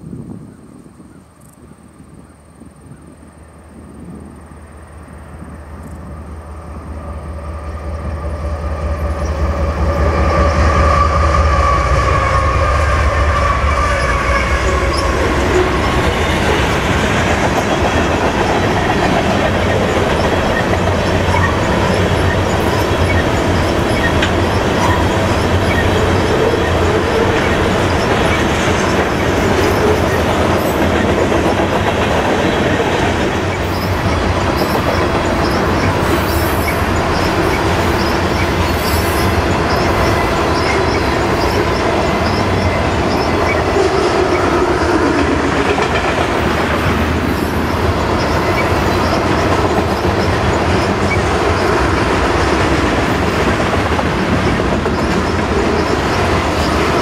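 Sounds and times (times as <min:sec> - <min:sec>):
locomotive engine drone and whine: 0:00.0 - 0:57.0
train wheels clickety-clack: 0:07.4 - 0:57.0.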